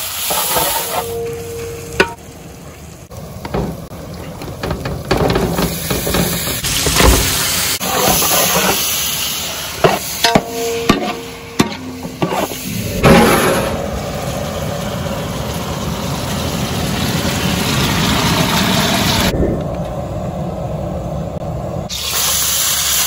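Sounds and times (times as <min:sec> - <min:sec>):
chicken sizzling in pot: 0:00.0 - 0:04.0, 0:04.6 - 0:19.3, 0:21.9 - 0:23.0.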